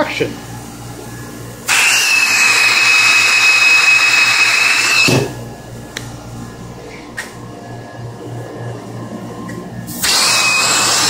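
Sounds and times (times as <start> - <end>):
vacuum turbine humming: 0.0 - 11.0.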